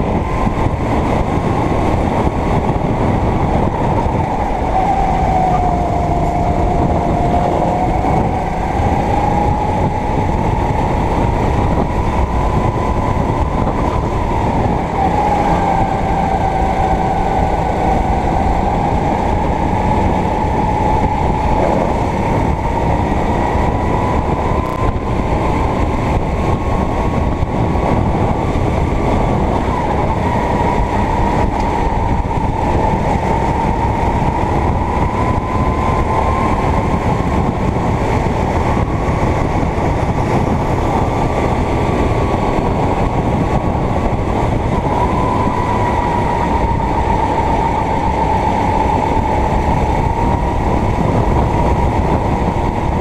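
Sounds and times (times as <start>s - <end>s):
dense rushing noise: 0.0s - 53.0s
go-kart engine running hard: 0.0s - 53.0s.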